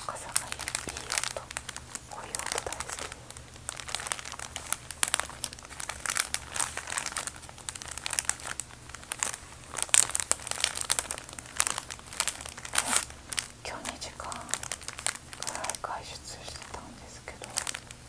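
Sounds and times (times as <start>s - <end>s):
bag crinkling: 0.0s - 18.0s.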